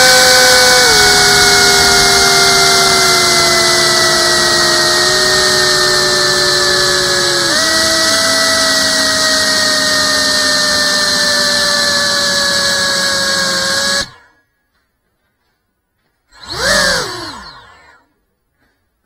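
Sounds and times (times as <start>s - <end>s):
drone motors whining: 0.0s - 14.4s, 16.3s - 18.2s.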